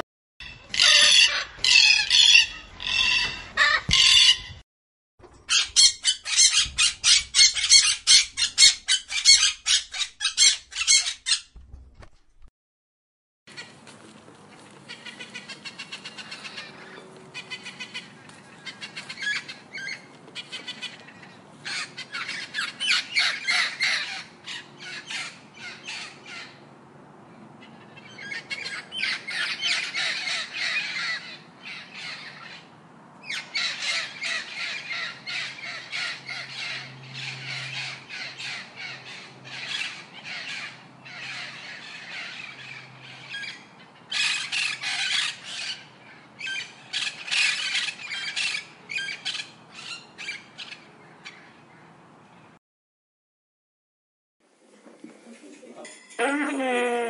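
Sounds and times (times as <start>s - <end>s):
parrots squawking: 0.4s - 4.6s, 5.4s - 11.5s, 14.9s - 26.6s, 27.6s - 51.5s.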